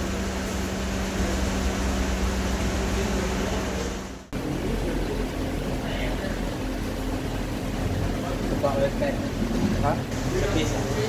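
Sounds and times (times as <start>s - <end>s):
workshop machinery hum: 0.0s - 11.0s.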